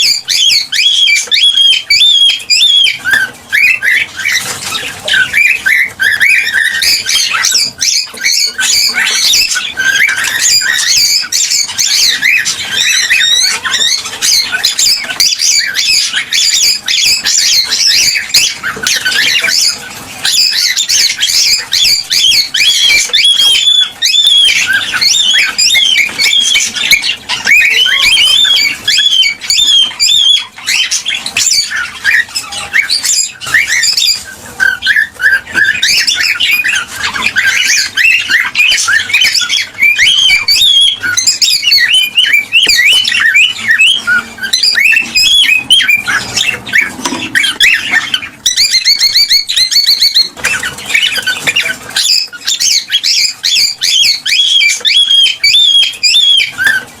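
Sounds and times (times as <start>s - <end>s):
cockatiels chirping and squawking: 0.0s - 57.0s.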